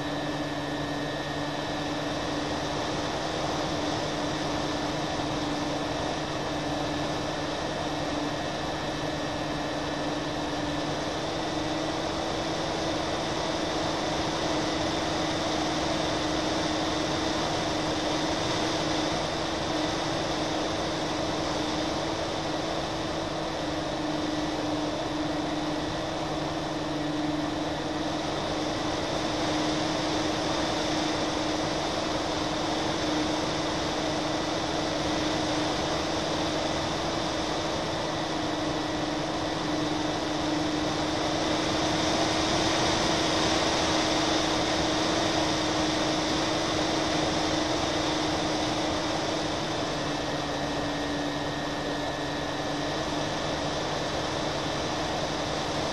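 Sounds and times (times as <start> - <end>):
propeller motors droning: 0.0 - 55.9.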